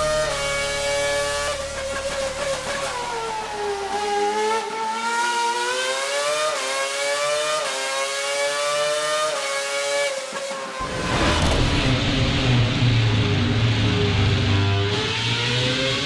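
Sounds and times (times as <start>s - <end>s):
racing car engine whining: 0.0s - 16.0s.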